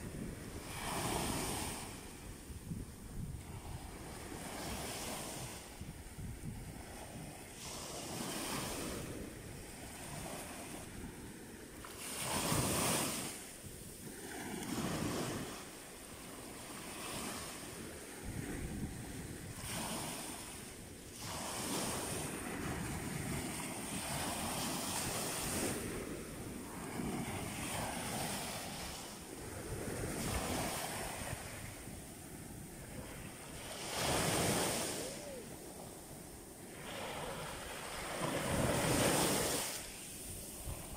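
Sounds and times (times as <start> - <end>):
small waves breaking on beach: 0.0 - 40.9
wind buffeting microphone: 0.0 - 40.9.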